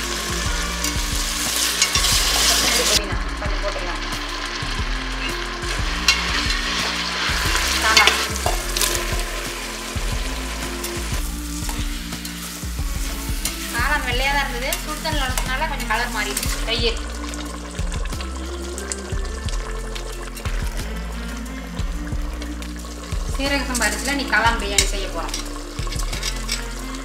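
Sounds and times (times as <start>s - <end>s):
stirring in a pot: 0.0s - 3.1s, 4.0s - 27.0s
vegetables sizzling in hot oil: 0.0s - 27.0s.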